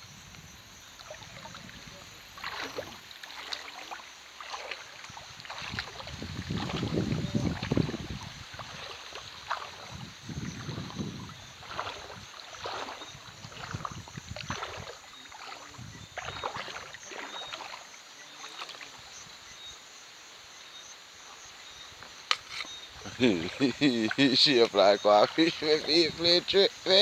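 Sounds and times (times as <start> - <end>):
water splashing from wading: 0.9 - 19.8, 21.1 - 27.0.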